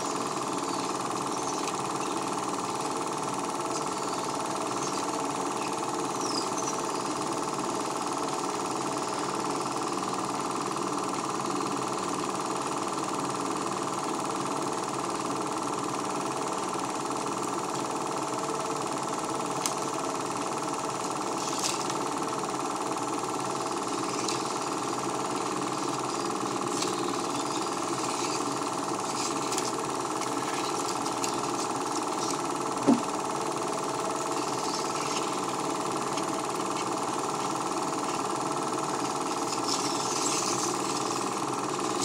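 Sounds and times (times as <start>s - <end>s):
film projector whirring: 0.0s - 42.0s.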